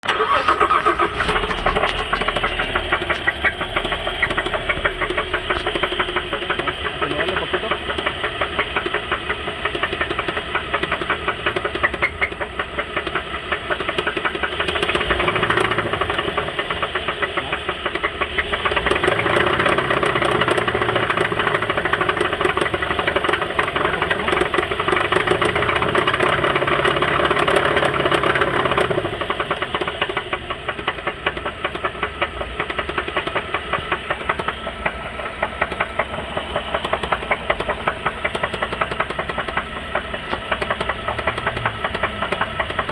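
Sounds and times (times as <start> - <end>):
engine running with rapid knocking: 0.0 - 42.9.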